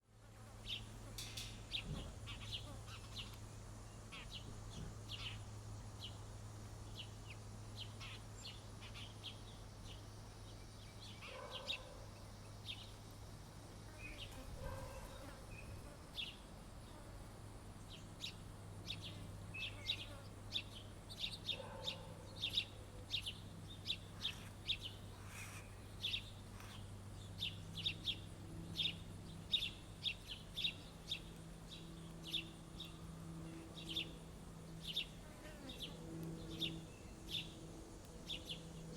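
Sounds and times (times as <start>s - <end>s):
steady low hum: 0.1s - 38.9s
songbirds chirping: 0.6s - 38.9s.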